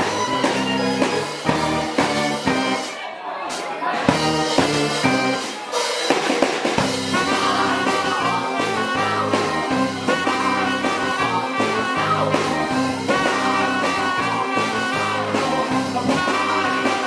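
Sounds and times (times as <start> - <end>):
funk band playing: 0.0 - 17.0.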